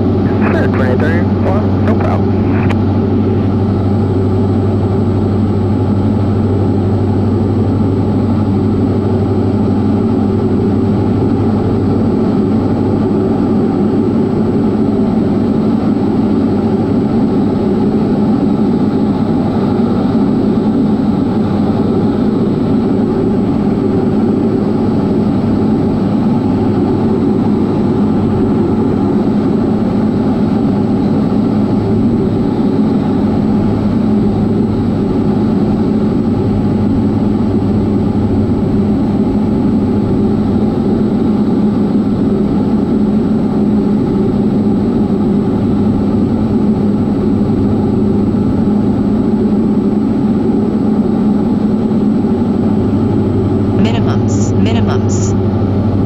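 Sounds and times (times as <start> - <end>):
aircraft propeller engine drone: 0.0 - 56.0.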